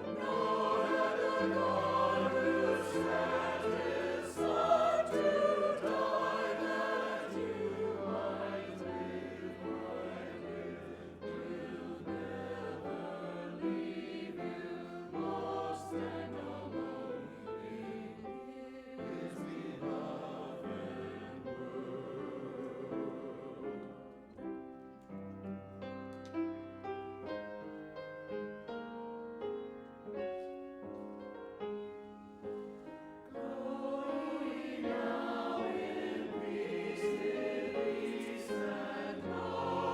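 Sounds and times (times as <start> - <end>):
choir singing: 0.0 - 24.8, 31.8 - 39.9.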